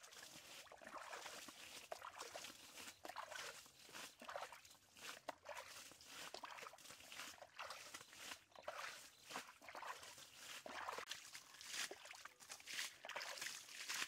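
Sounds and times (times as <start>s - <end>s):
water splashing from bailing: 0.0s - 14.0s.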